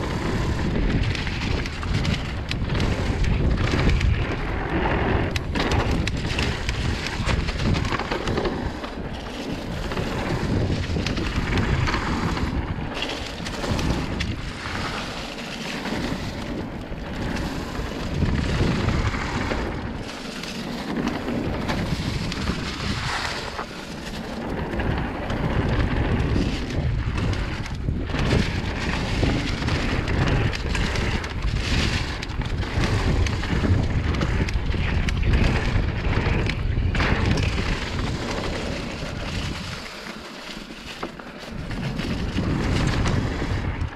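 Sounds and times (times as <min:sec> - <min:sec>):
bike tyres rolling over leaves: 0:00.0 - 0:43.9
wind buffeting microphone: 0:00.0 - 0:43.9.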